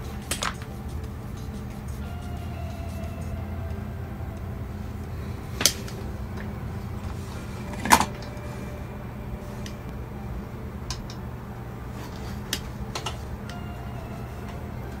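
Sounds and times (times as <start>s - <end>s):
steady low hum: 0.0s - 15.0s
wires being handled: 0.0s - 15.0s.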